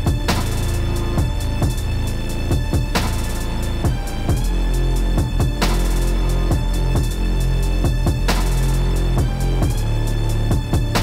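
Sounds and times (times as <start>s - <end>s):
electronic music with heavy beat: 0.0s - 11.0s.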